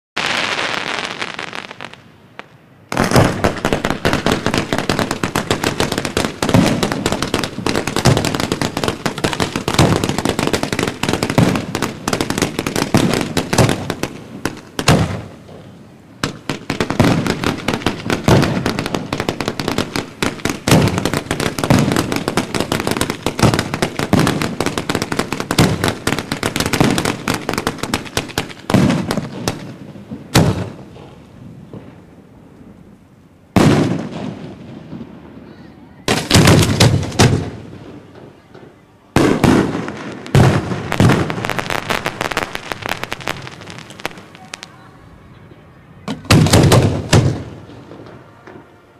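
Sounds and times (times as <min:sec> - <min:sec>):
fireworks crackling: 0:00.2 - 0:48.9.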